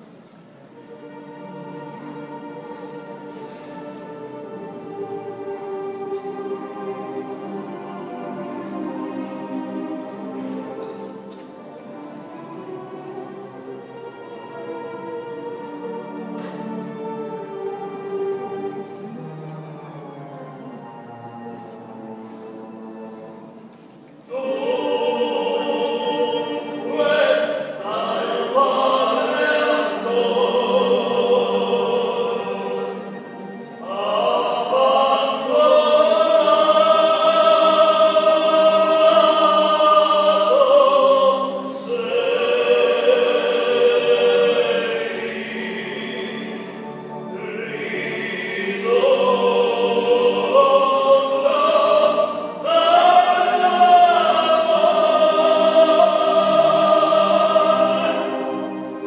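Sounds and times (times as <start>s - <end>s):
choir singing: 0.8s - 59.0s.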